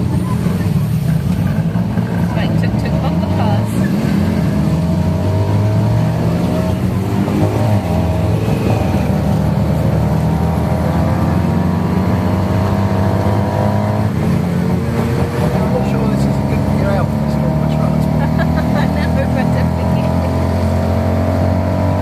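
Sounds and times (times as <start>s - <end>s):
auto rickshaw engine running: 0.0s - 22.0s.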